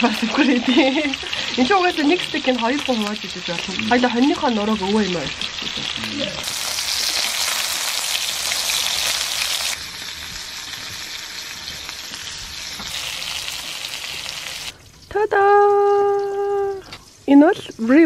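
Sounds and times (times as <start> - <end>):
steak sizzling: 0.0 - 14.8.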